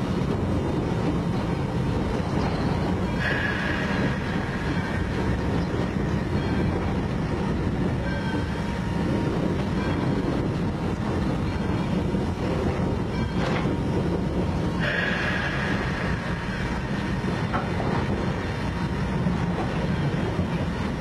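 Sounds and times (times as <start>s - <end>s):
steam locomotive rumble and rattle: 0.0s - 21.0s.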